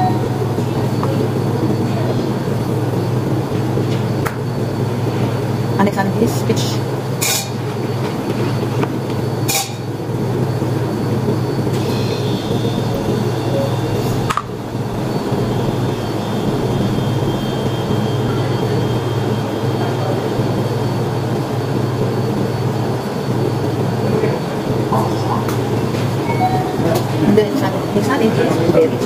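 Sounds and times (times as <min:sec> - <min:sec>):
low background hum and rumble: 0:00.0 - 0:29.0.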